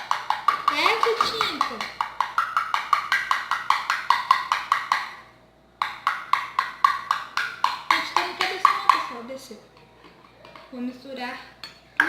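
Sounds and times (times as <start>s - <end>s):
paint pot knocking: 0.0s - 10.8s.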